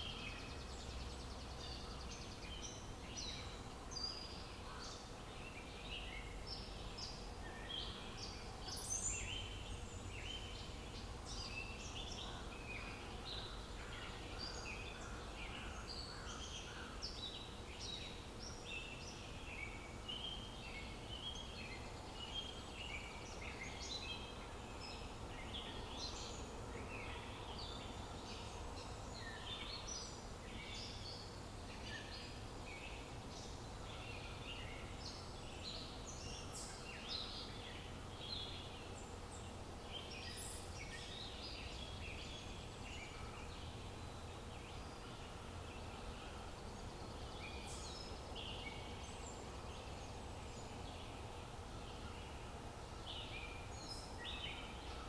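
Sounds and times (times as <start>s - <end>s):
low outdoor background: 0.0s - 55.0s
small birds chirping: 0.0s - 55.0s.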